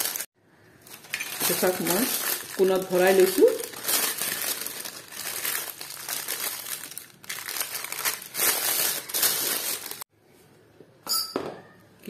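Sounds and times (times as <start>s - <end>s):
plastic piping bag crinkling: 0.0s - 10.1s.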